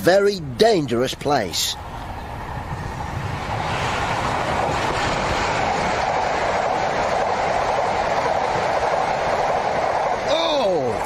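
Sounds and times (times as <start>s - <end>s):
train passing at speed: 0.0s - 11.0s.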